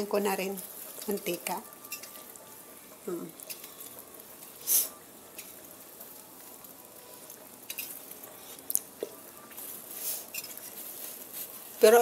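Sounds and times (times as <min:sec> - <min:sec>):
eggs sizzling in oil: 0:00.0 - 0:12.0.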